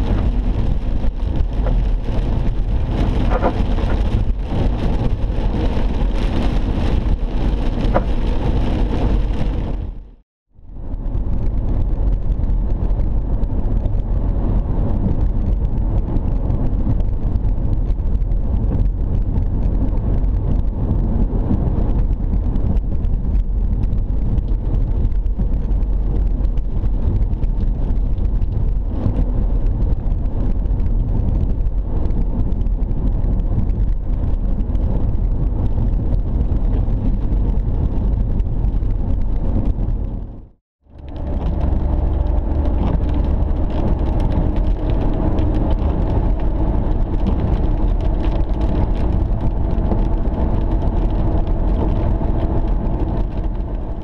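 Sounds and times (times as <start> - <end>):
rain on car body: 0.0 - 10.2, 10.8 - 54.0
tyre and road rumble: 0.0 - 54.0.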